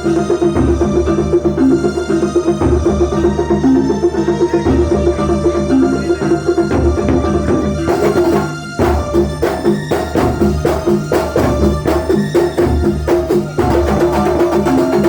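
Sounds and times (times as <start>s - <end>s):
drums in fast rhythm: 0.0s - 15.0s
sustained melodic notes: 0.0s - 15.0s.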